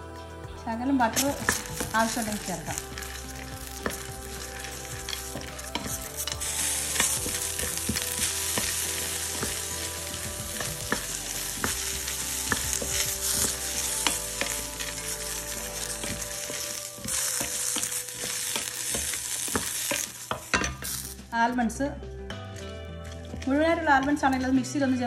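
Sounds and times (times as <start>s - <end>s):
nuts sizzling in pan: 1.0s - 21.5s.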